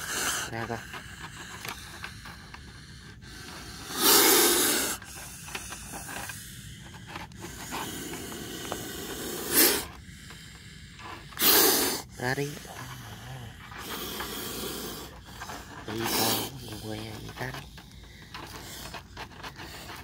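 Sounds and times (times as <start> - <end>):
snake hissing: 0.0 - 20.0.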